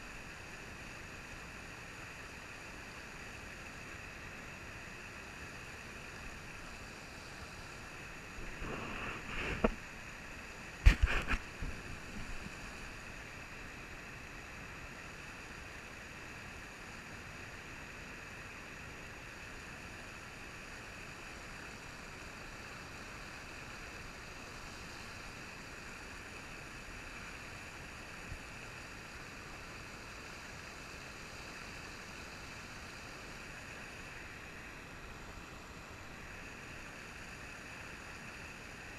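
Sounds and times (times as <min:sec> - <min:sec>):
river water rushing over rapids: 0:00.0 - 0:38.9.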